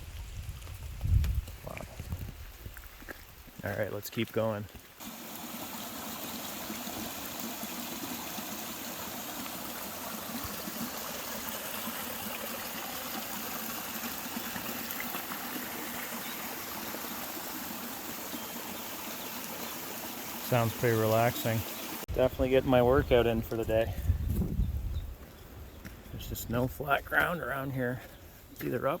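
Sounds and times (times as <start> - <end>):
running water: 0.0 - 24.1.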